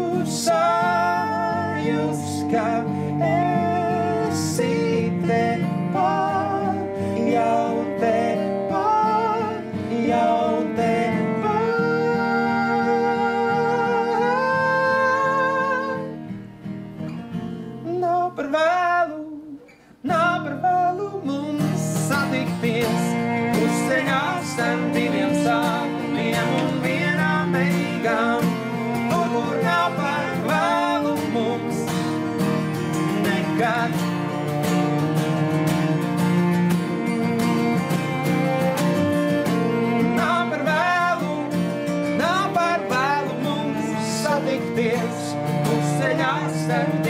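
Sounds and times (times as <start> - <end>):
man singing: 0.0 - 16.2, 17.8 - 34.7, 39.2 - 47.0
cello melody: 0.0 - 17.8, 21.6 - 47.0
acoustic guitars strumming: 0.0 - 47.0.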